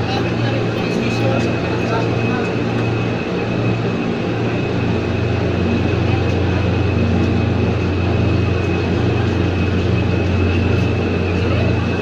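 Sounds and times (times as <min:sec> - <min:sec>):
train car rumble and hum: 0:00.0 - 0:12.0.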